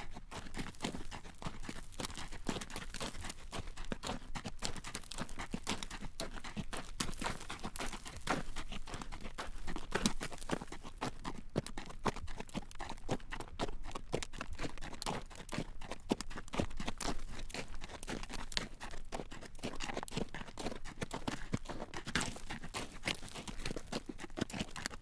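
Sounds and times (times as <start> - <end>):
horse hooves clip-clopping on road: 0.0 - 25.0.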